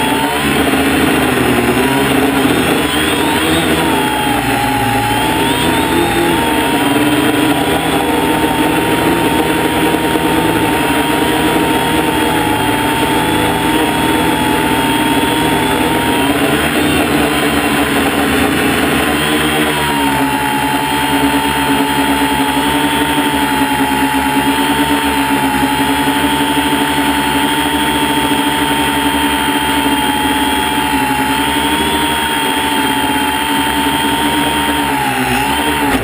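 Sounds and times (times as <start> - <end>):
drone propellers whining: 0.0 - 36.0.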